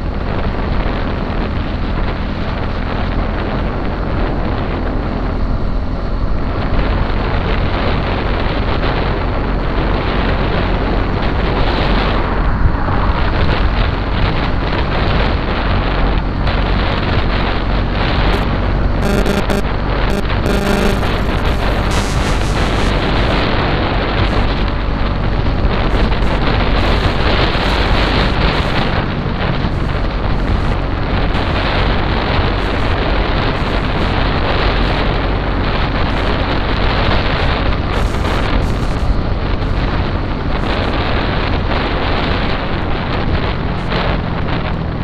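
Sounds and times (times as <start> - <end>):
motorcycle engine humming: 0.0 - 45.0
wind buffeting microphone: 0.0 - 45.0.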